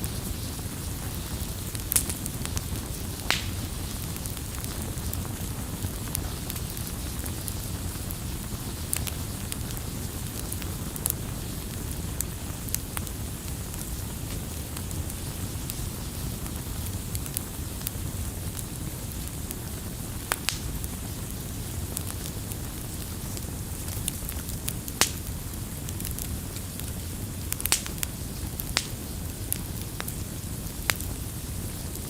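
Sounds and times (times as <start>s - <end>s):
crackles and pops of burning wood: 0.0s - 32.0s
low rumble of flames: 0.0s - 32.0s.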